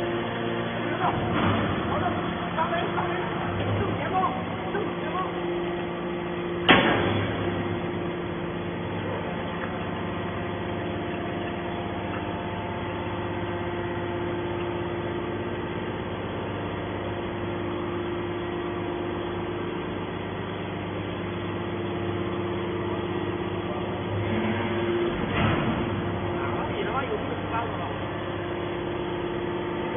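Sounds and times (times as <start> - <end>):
hydraulic power unit hum: 0.0 - 29.9.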